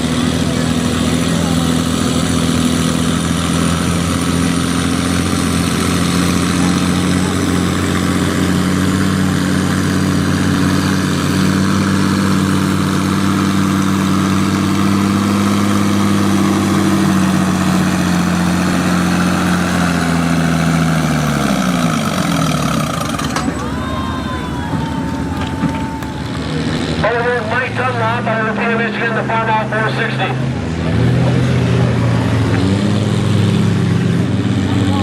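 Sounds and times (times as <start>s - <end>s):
tractor engine at high speed: 0.0s - 35.0s.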